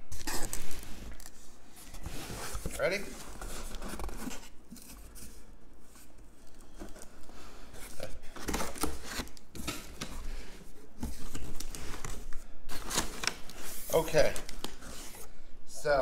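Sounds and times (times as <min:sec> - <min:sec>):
packing paper rustling: 0:00.0 - 0:15.3.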